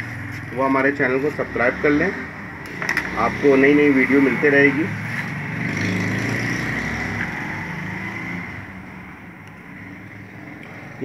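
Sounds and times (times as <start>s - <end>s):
vehicle engine passing by: 0.0s - 9.2s.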